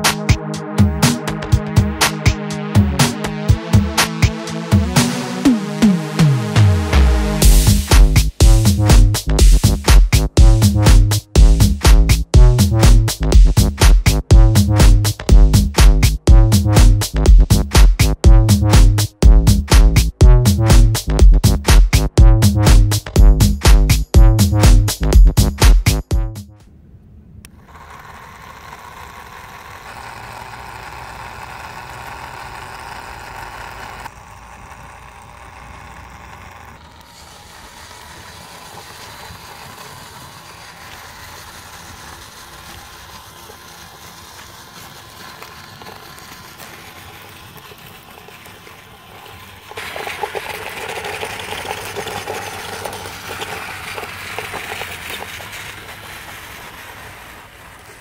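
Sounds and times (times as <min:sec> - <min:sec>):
small motor whirring: 0:00.0 - 0:16.2, 0:27.5 - 0:58.0.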